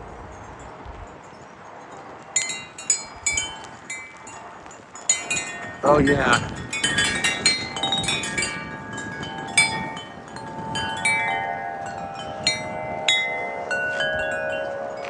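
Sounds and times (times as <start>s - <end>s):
light wind: 0.0s - 15.0s
wind chimes ringing: 0.6s - 15.0s.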